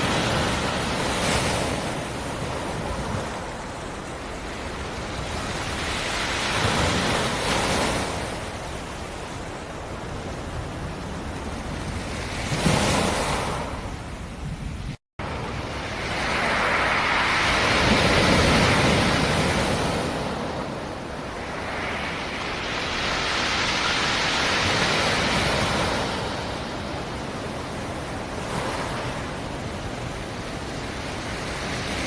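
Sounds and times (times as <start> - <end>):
waves breaking on shore: 0.0 - 32.0.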